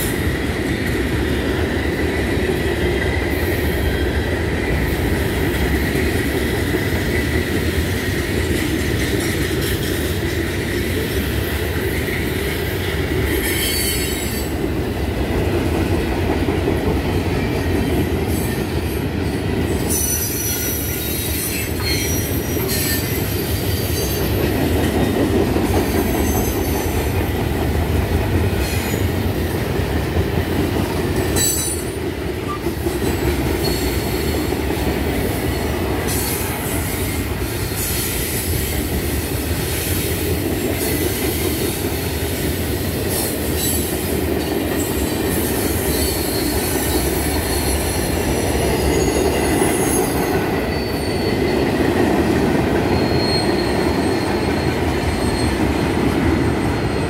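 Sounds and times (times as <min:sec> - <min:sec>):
freight train wheels rumbling: 0:00.0 - 0:57.0
train wheels squealing: 0:02.7 - 0:14.6, 0:17.4 - 0:27.6, 0:28.5 - 0:29.6, 0:31.1 - 0:57.0.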